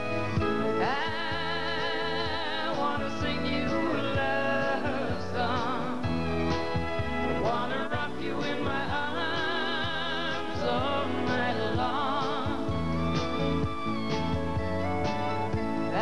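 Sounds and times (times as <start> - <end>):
person singing with vibrato: 0.0 - 13.6
band accompaniment: 0.0 - 16.0.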